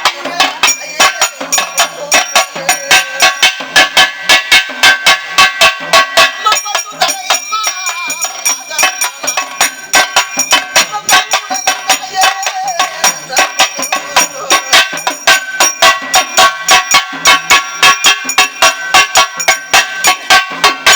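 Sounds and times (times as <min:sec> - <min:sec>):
person singing: 0:00.0 - 0:04.9, 0:06.0 - 0:20.9
drums beaten in fast rhythm: 0:00.0 - 0:20.9
ringing cymbals: 0:00.0 - 0:20.9.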